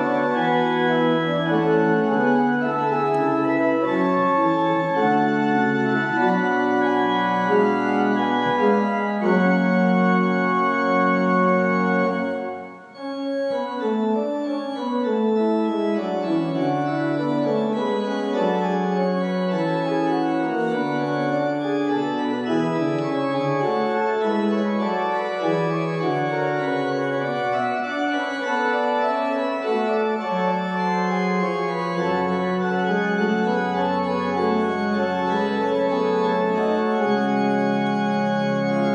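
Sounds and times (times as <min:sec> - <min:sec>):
organ music: 0:00.0 - 0:38.9.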